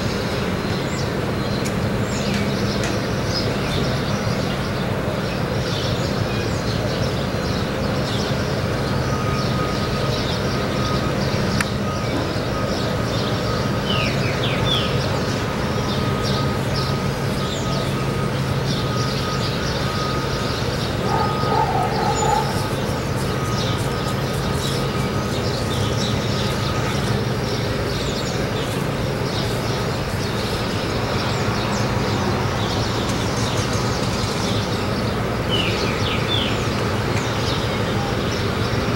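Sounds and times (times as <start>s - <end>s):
ship engine drone: 0.0s - 38.9s
small birds chirping: 0.0s - 38.9s.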